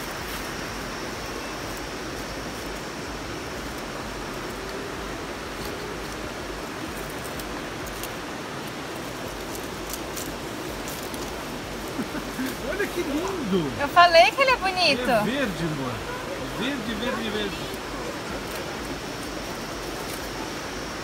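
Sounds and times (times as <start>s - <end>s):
falling water rushing: 0.0s - 21.0s.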